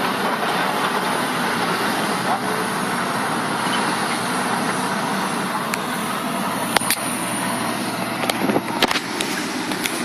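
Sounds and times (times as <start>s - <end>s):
excavator engine and machinery: 0.0s - 10.0s.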